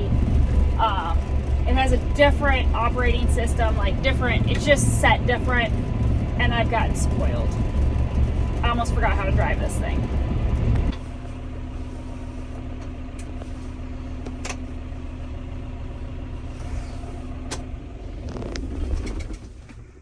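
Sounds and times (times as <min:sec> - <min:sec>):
low rumble: 0:00.0 - 0:20.0
tractor engine humming: 0:00.0 - 0:20.0.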